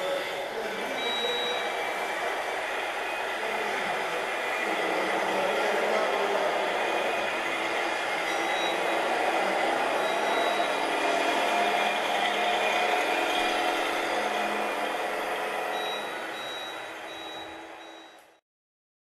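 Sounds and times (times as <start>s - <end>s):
simulated diesel truck engine: 0.0s - 18.4s.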